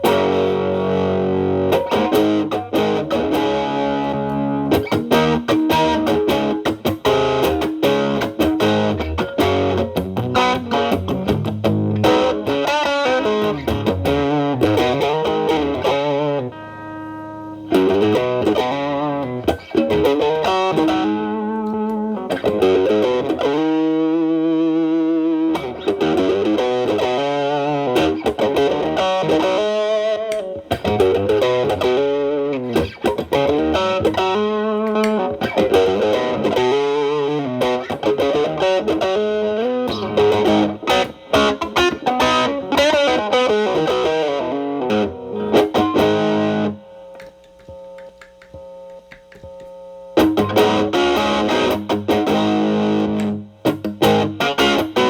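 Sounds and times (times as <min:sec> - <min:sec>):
overdriven electric guitar lead: 0:00.0 - 0:55.0.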